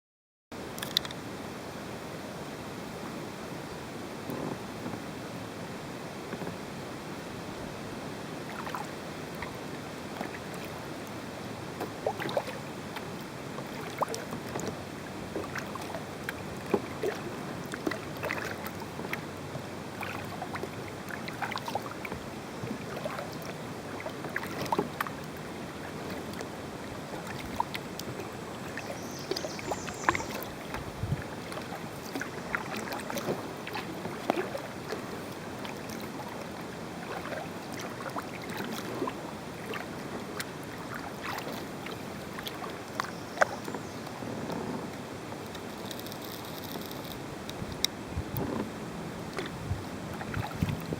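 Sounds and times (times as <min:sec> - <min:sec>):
paddle splashing in water: 0:02.8 - 0:50.9.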